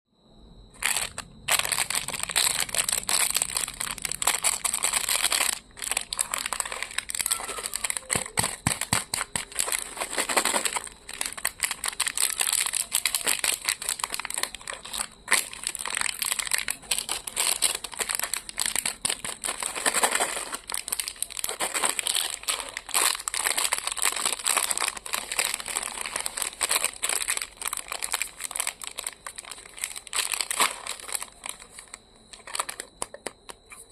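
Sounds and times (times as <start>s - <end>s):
plastic candy wrappers crinkling: 0.8s - 33.9s.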